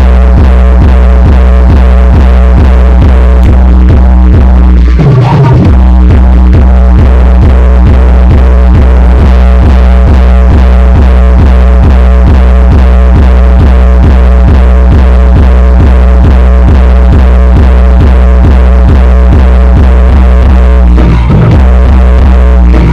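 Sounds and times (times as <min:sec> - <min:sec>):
loud bass-heavy electronic music: 0:00.0 - 0:22.9.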